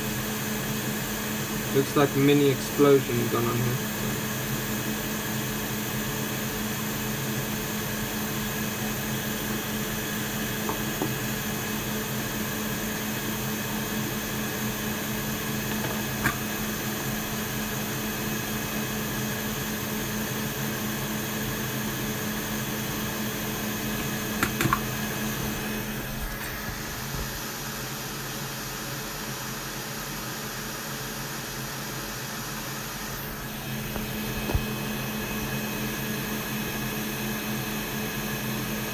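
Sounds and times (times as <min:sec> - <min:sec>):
fan motor whirring hum: 0:00.0 - 0:38.9.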